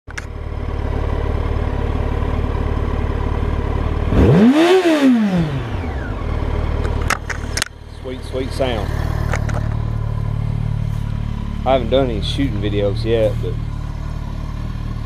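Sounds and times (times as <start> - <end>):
motorcycle engine idling and revving: 0.1 - 15.0.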